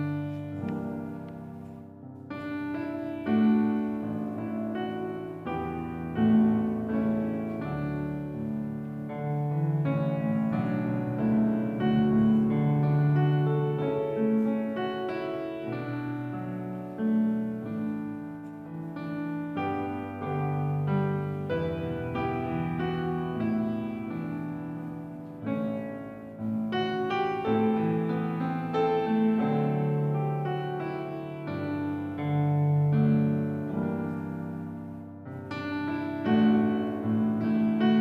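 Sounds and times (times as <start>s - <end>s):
slow gentle piano piece: 0.0s - 38.0s.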